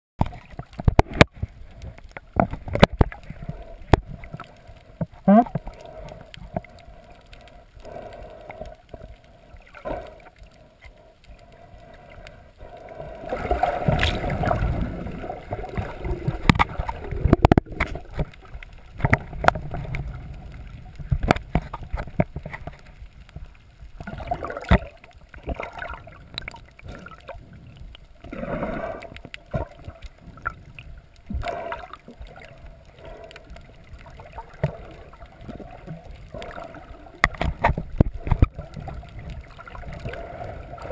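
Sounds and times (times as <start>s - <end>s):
water gurgling underwater: 0.2s - 40.9s.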